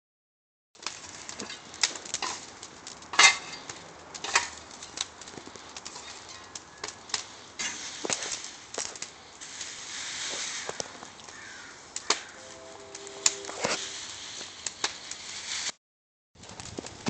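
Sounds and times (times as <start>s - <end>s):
wood fire crackling and popping: 0.8s - 15.8s, 16.4s - 17.0s.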